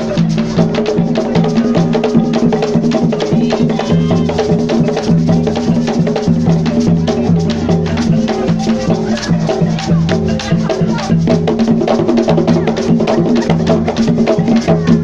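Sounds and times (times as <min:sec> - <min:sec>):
folk dance music with drums: 0:00.0 - 0:15.0.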